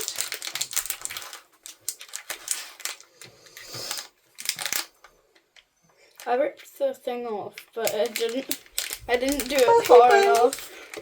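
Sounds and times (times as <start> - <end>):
packaging clicks and rustles: 0.0 - 5.6, 7.5 - 11.0.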